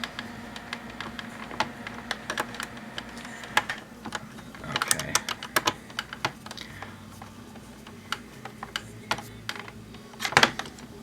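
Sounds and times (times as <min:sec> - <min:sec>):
plastic parts clicking: 0:00.0 - 0:11.0.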